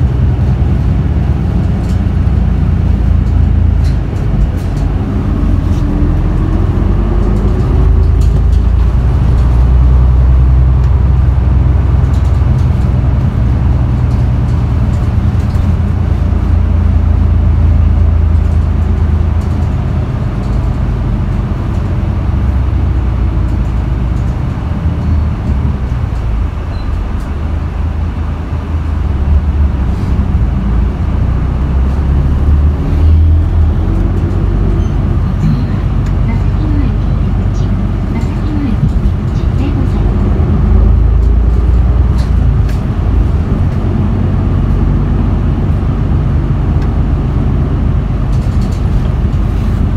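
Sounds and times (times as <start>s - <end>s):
bus engine rumble: 0.0s - 49.9s.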